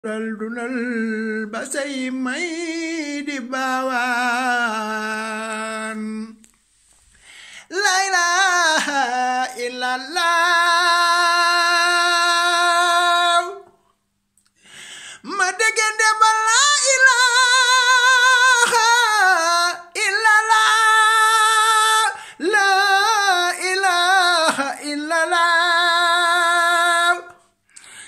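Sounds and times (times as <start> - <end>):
man singing unaccompanied: 0.0 - 6.5, 7.6 - 13.8, 15.2 - 27.6.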